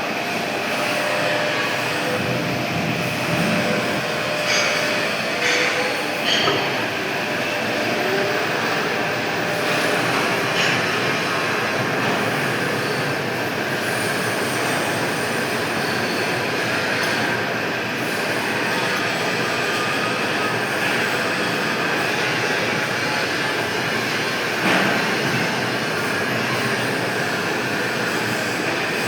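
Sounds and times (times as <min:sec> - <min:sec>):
lathe running: 0:00.0 - 0:29.0.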